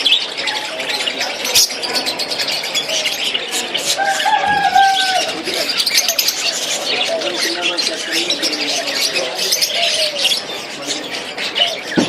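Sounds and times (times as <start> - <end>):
parrots chirping and chattering: 0.0 - 12.0.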